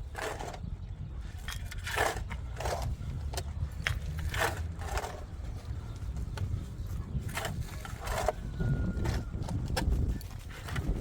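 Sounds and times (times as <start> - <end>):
hand tool scraping gritty surface: 0.0 - 11.0.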